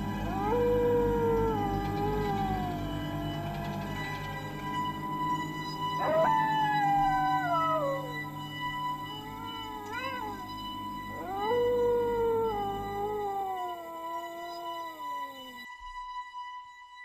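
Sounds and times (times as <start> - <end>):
dog howling: 0.0 - 15.6
faint steady whine: 0.0 - 15.7.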